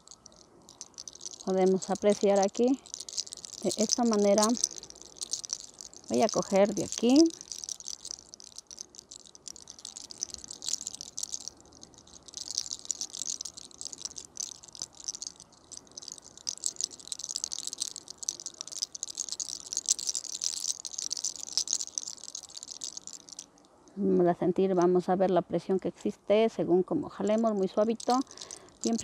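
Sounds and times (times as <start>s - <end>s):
hair crackling between fingers: 0.0s - 23.7s, 27.2s - 29.0s.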